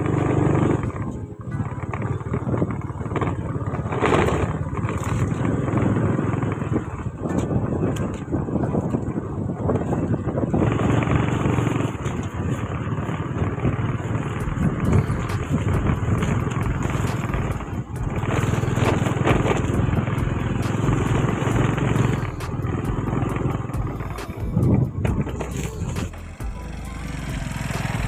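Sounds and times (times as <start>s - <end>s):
motorcycle engine running: 0.0s - 28.0s
wind noise on microphone: 0.0s - 28.0s.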